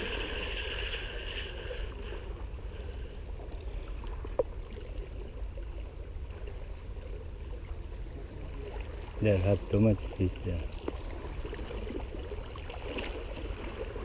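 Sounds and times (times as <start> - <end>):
waves lapping against rocks: 0.0 - 14.0.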